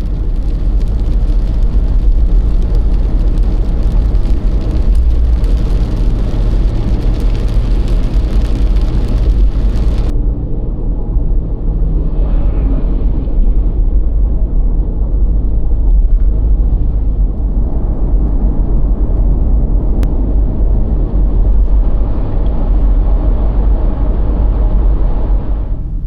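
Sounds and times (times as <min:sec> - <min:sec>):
loud low rumbling: 0:00.0 - 0:26.0.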